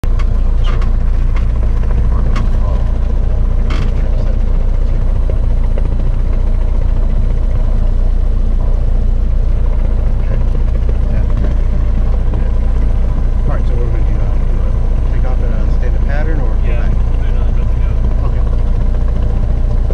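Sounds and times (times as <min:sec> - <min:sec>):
airplane engine and propeller drone: 0:00.0 - 0:19.9.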